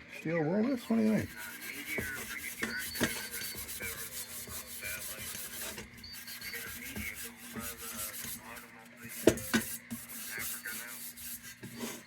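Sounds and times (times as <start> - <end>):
steel wool scrubbing metal: 0.8 - 12.0.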